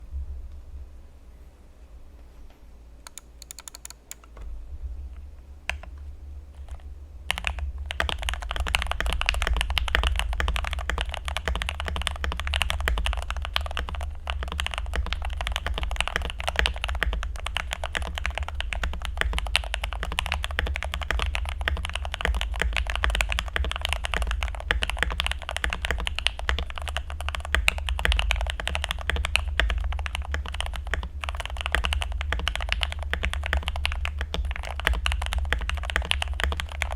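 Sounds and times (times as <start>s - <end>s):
typing on mechanical keyboard: 3.0s - 4.5s, 5.7s - 6.0s, 6.6s - 36.9s.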